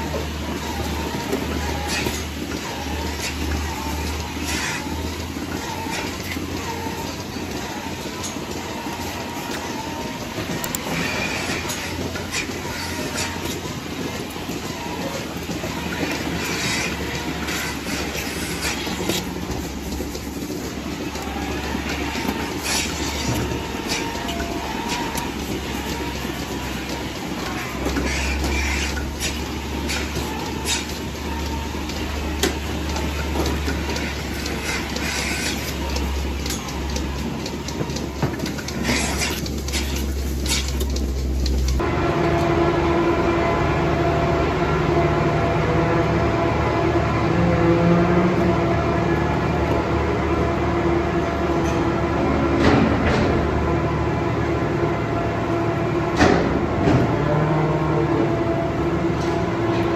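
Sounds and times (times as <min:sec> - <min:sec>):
milking equipment humming and clicking: 0:00.0 - 0:59.9.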